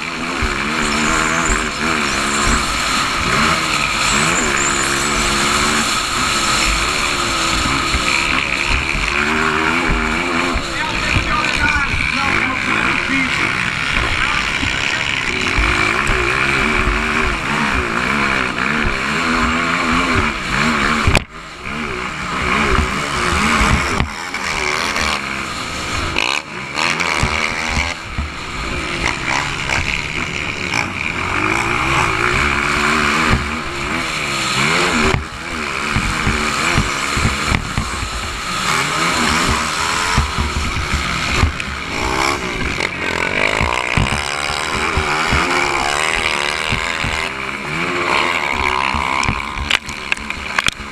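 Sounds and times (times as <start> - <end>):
dirt bike engines racing: 0.0 - 50.9.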